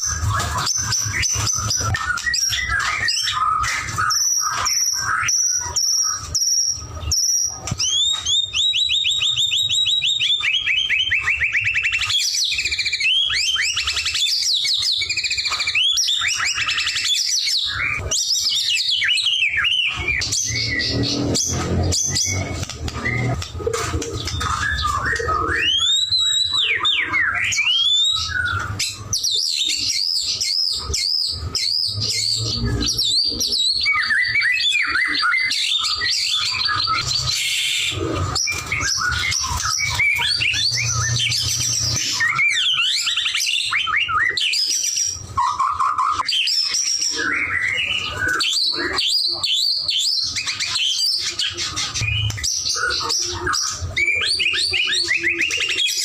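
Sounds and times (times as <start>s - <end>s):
bird singing whistles and trills: 0.0s - 56.0s.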